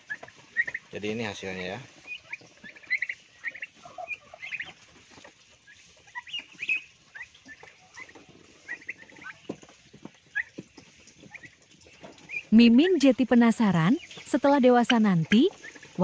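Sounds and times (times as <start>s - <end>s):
turkey poults peeping: 0.0s - 16.0s.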